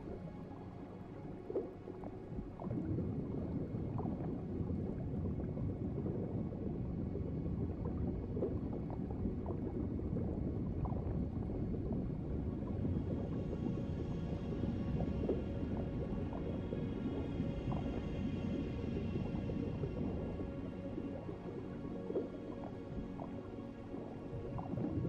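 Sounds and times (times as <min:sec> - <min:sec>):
faint bubbling: 0:00.0 - 0:25.0
underwater rumbling wash: 0:00.0 - 0:25.0.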